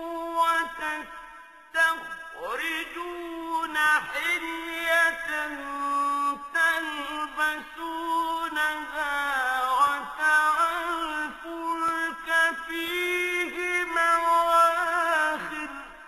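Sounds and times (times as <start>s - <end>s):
solo voice chanting recitation: 0.0s - 16.0s.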